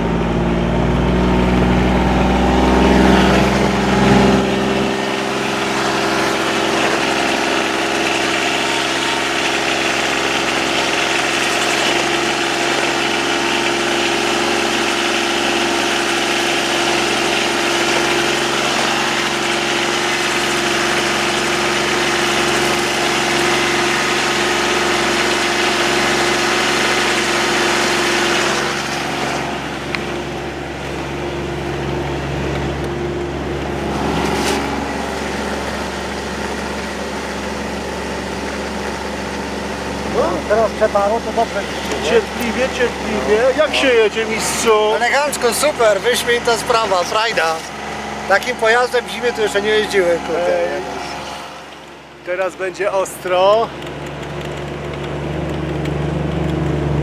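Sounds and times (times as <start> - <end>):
utility vehicle engine running: 0.0 - 57.0.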